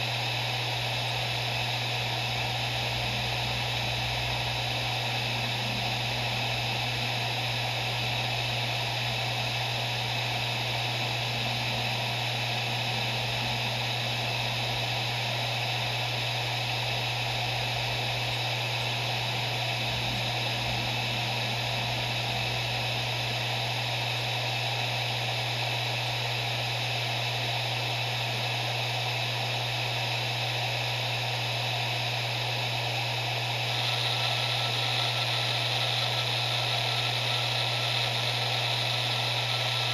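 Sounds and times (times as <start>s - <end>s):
hard drive humming and whirring: 0.0s - 39.9s.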